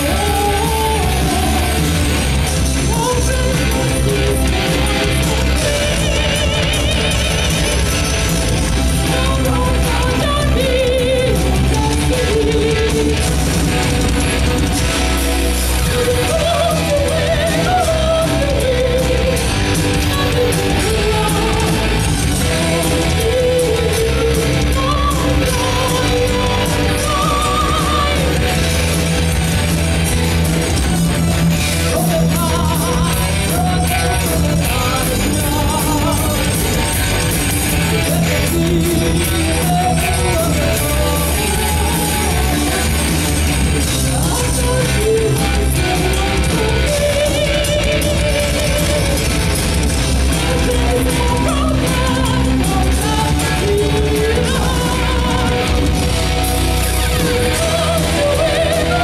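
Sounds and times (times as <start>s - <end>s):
woman singing: 0.0s - 1.9s, 2.8s - 8.1s, 9.0s - 13.4s, 15.8s - 28.7s, 31.9s - 37.0s, 37.7s - 43.1s, 43.9s - 49.4s, 50.4s - 56.2s, 57.0s - 59.0s
heavy metal band playing live: 0.0s - 59.0s.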